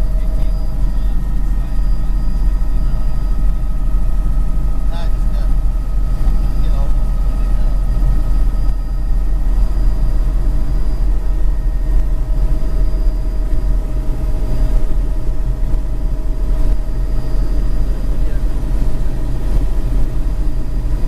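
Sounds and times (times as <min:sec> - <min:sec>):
constant whine: 0:00.0 - 0:21.0
helicopter engine and rotor drone: 0:00.0 - 0:21.0.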